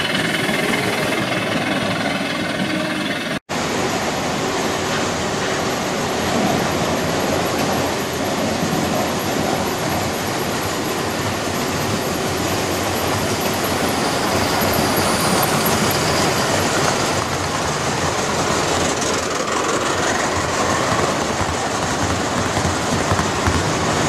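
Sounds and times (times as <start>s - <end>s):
model train wheels rumbling on rails: 0.0s - 24.0s.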